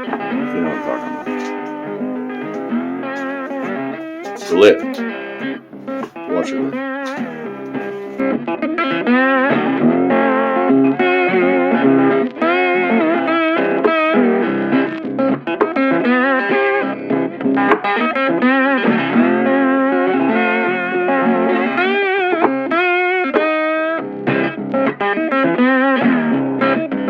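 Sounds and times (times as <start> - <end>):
electric guitar melody: 0.0 - 27.0.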